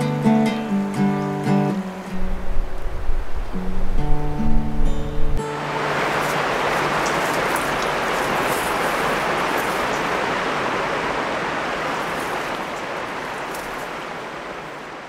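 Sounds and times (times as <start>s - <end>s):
river water rushing over rocks: 1.7s - 15.0s.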